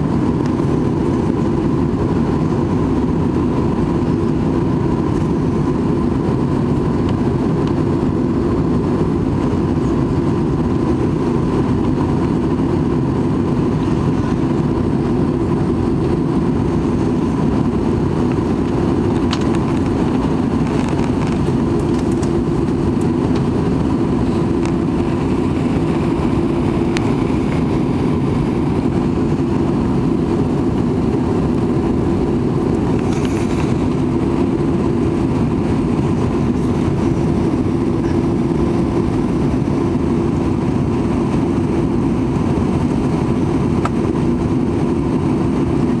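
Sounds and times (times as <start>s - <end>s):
jet engine cabin roar: 0.0s - 46.0s.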